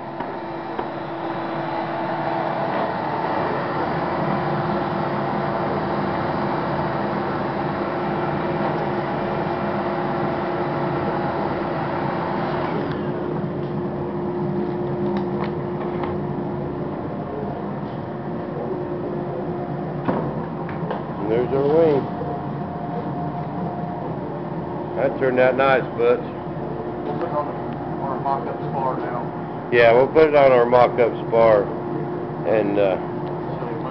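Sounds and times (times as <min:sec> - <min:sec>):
shop vacuum motor running: 0:00.0 - 0:17.7, 0:20.9 - 0:31.7.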